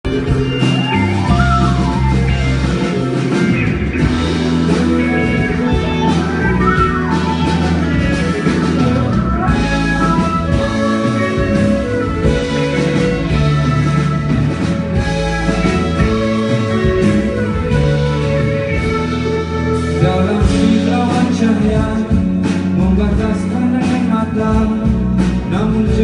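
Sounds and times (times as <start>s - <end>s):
live rock band playing: 0.0s - 26.0s
sliding lead melody: 0.0s - 26.0s.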